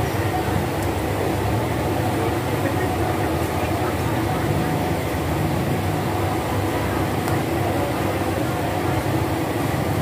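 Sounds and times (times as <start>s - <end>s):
general hubbub: 0.0s - 10.0s
road traffic rumble: 0.0s - 10.0s.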